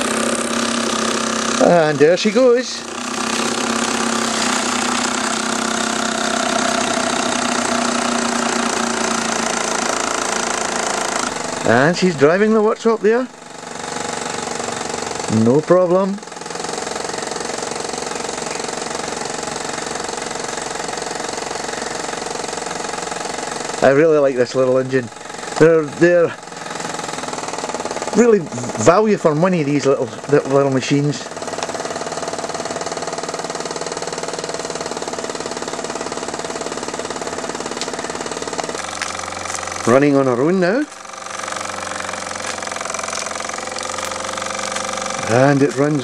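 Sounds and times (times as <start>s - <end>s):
toy steam engine exhaust beat: 0.0s - 46.0s.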